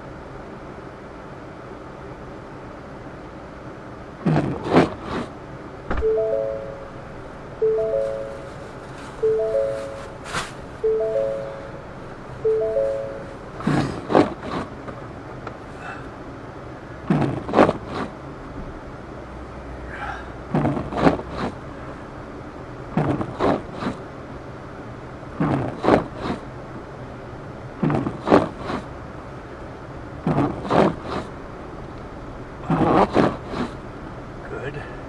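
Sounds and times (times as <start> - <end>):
car cabin road hum: 0.0 - 35.0.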